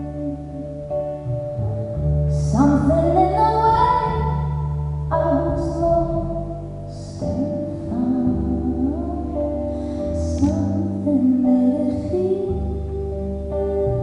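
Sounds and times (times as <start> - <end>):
woman singing: 2.3 - 14.0.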